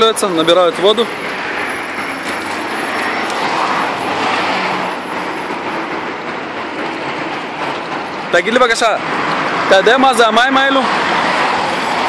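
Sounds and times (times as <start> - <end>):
highway traffic passing: 0.0 - 12.0.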